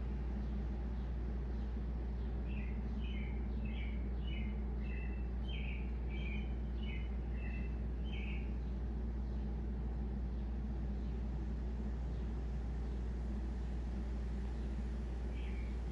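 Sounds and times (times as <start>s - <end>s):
songbird singing: 0.0s - 15.9s
steady low hum: 0.0s - 15.9s.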